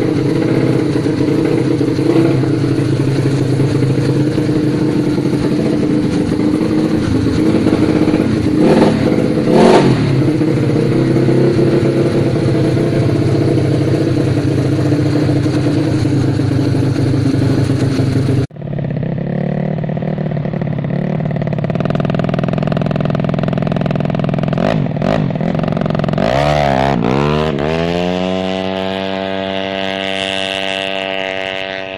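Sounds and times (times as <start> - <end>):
scooter engine running: 0.0 - 31.9.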